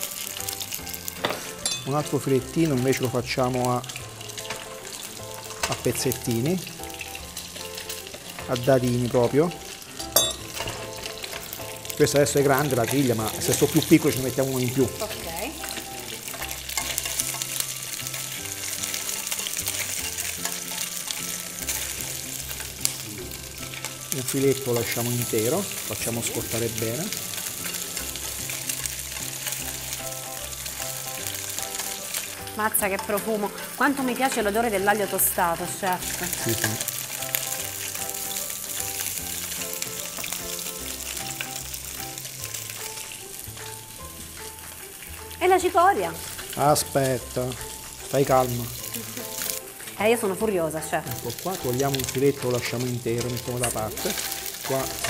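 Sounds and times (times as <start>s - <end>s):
background music with low bass: 0.0s - 55.0s
fish sizzling in frying pan: 0.0s - 55.0s
utensil stirring in pan: 0.0s - 55.0s.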